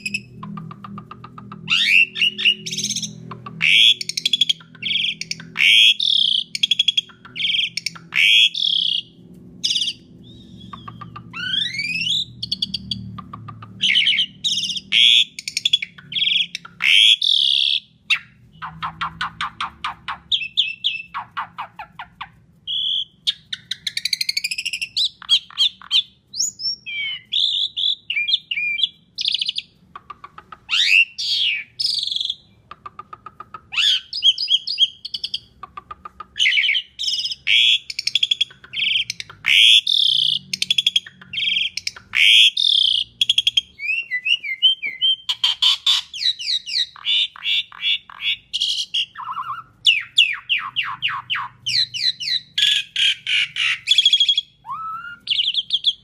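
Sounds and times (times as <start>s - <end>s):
starling singing: 0.0s - 56.0s.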